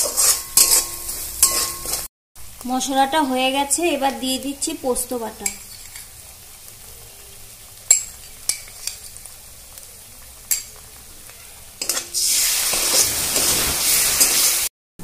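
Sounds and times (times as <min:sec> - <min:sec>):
loud frying sizzle: 0:00.0 - 0:14.7.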